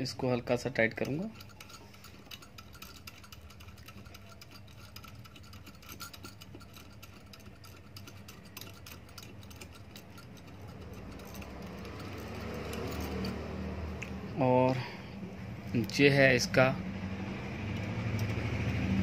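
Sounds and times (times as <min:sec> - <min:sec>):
metallic ticks and scrapes: 0:00.0 - 0:14.2, 0:17.7 - 0:19.0.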